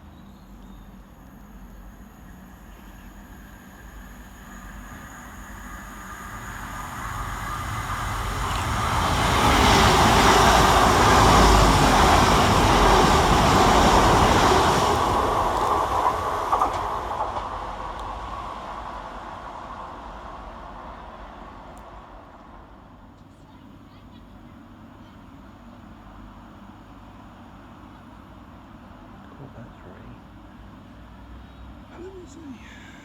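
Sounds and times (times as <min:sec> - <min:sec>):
train running past platform: 0:00.0 - 0:33.0.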